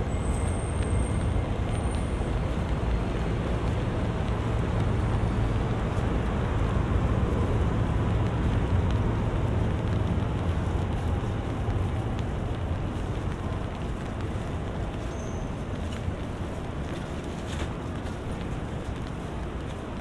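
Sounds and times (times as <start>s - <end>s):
road traffic rumble: 0.0s - 20.0s
steady rain: 0.0s - 20.0s.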